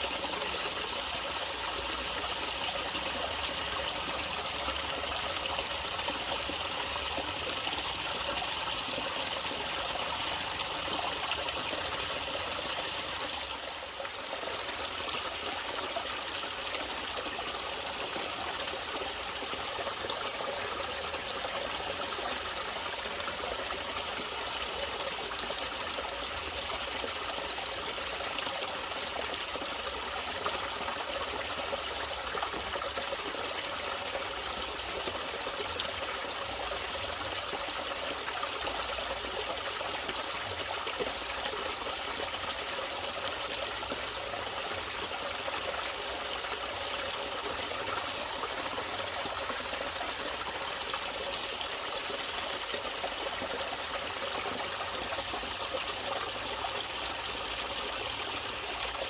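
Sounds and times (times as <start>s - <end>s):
water trickling and flowing: 0.0s - 59.0s.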